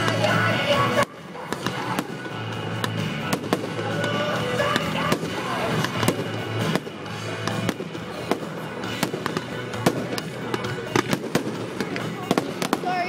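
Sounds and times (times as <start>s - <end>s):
fireworks bangs and crackles: 0.0s - 13.0s
music over loudspeakers: 0.0s - 13.0s.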